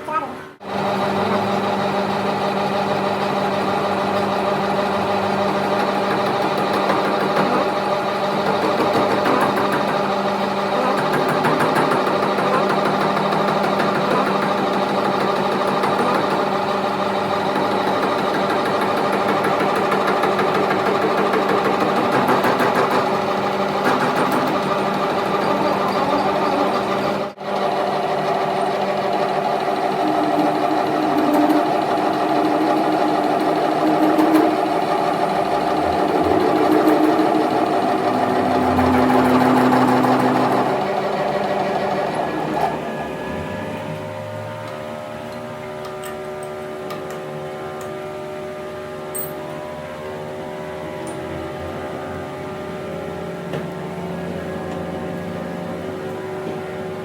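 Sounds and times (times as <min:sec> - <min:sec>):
workshop machine humming: 0:00.0 - 0:57.0.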